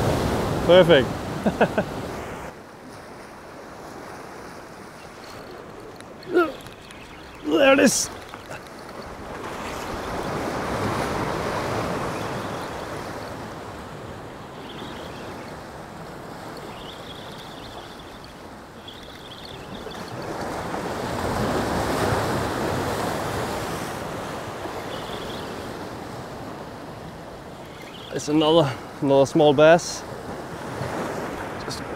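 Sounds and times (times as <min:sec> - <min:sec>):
waves breaking over rocks: 0:00.0 - 0:29.0.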